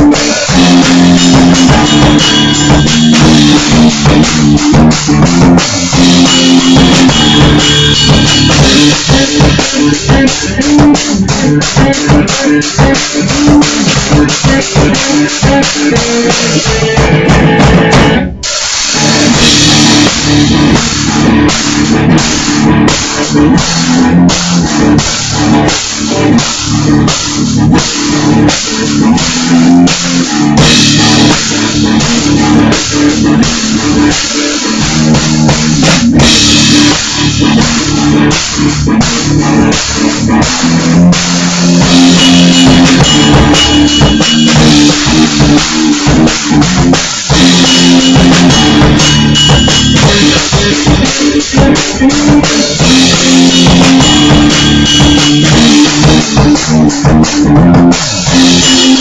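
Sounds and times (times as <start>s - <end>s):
electric guitar riff: 0.0s - 59.0s
heavy drum kit: 0.0s - 59.0s.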